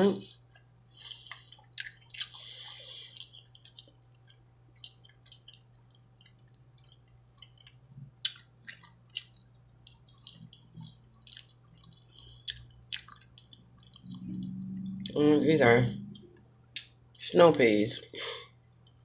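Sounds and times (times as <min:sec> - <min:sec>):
person chewing food: 0:00.0 - 0:15.2
faint low hum: 0:00.0 - 0:19.0.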